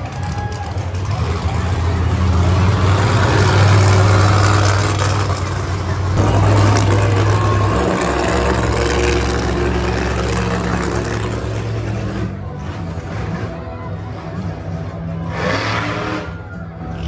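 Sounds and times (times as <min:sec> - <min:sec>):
monster truck engines running: 0:00.0 - 0:17.0.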